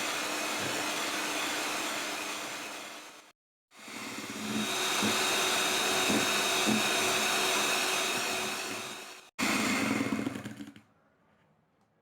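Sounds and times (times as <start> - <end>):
electric hand mixer whining: 0.0 - 10.6.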